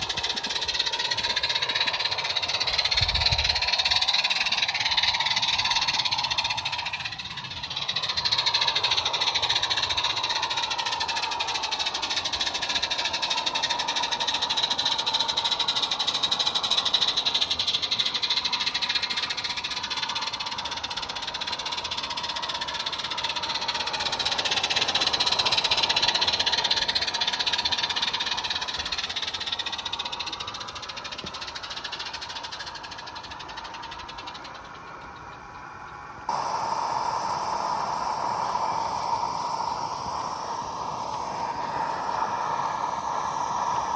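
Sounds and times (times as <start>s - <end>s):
model locomotive whining and ticking: 0.0s - 43.9s.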